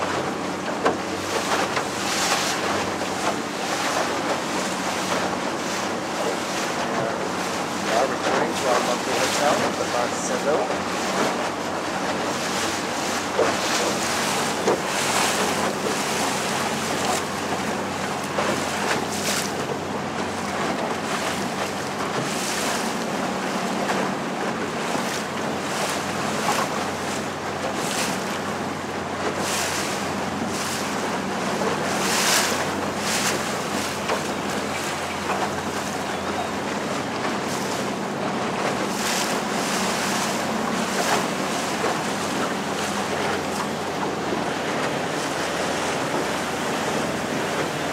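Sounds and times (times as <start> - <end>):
boat motor humming: 0.0 - 47.9
water rushing along hull: 0.0 - 47.9.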